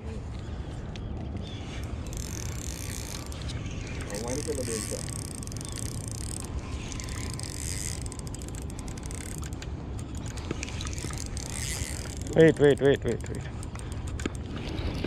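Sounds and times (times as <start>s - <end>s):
fishing reel drag clicking: 1.7s - 15.0s.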